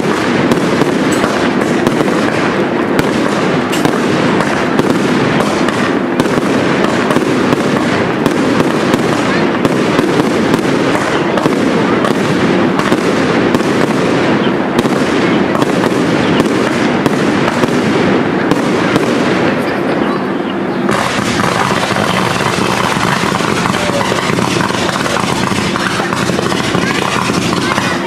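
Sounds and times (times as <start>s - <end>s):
fireworks bangs and crackling: 0.0s - 28.0s
fireworks rushing noise: 0.0s - 28.0s.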